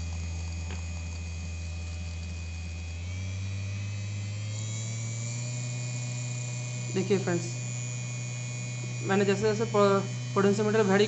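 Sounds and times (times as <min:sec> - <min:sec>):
small electric motor humming: 0:00.0 - 0:11.0.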